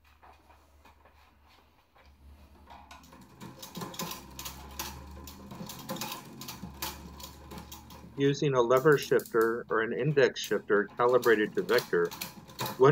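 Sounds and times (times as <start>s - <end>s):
bicycle chain clicking and rattling: 2.2s - 12.9s.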